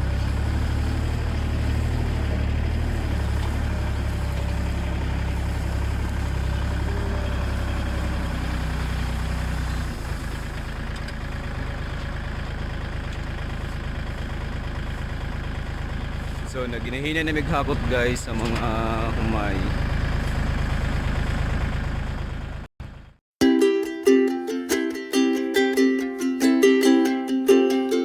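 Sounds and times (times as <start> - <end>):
farm machine engine humming: 0.0 - 23.2.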